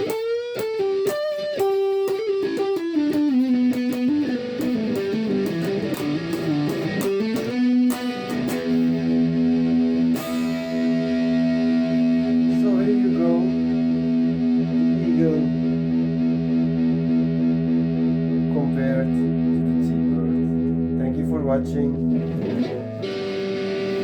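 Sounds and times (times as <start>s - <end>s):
overdriven electric guitar: 0.0s - 24.0s.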